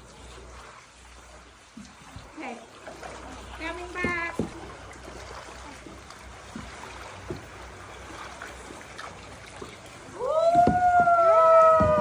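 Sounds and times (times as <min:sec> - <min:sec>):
water lapping around a kayak: 0:00.0 - 0:12.0.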